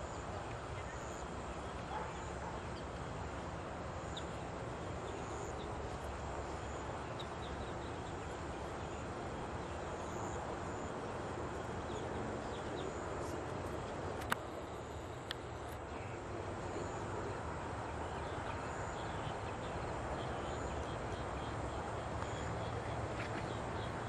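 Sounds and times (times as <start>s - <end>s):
faint insect drone: 0.0s - 24.0s
low rumble and hiss: 0.0s - 24.0s.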